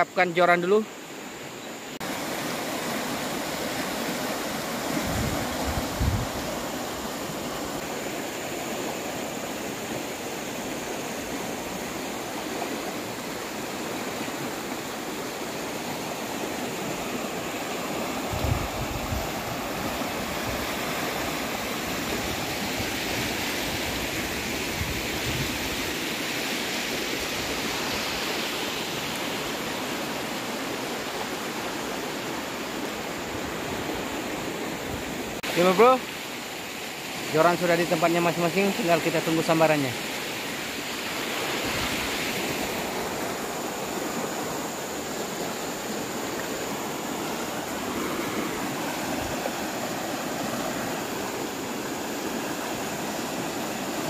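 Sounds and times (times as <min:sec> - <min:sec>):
river rushing over shallows: 0:00.0 - 0:54.0.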